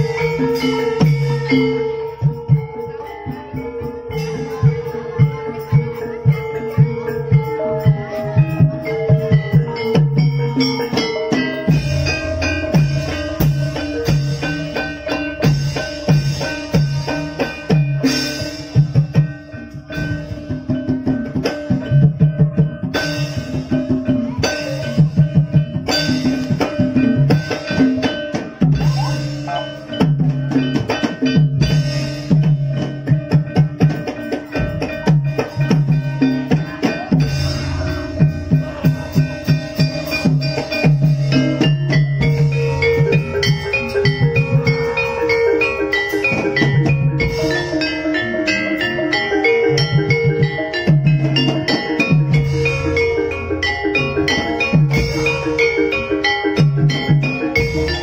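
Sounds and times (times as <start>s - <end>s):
gamelan held pitched tones: 0.0s - 58.0s
hand drums driving rhythm: 0.0s - 58.0s.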